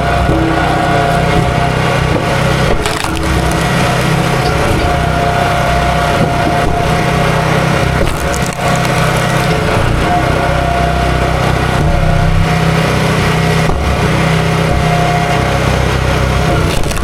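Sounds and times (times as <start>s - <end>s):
wood cracking and splintering: 0.0s - 10.8s, 12.4s - 17.0s
small gasoline engine running: 0.0s - 17.0s.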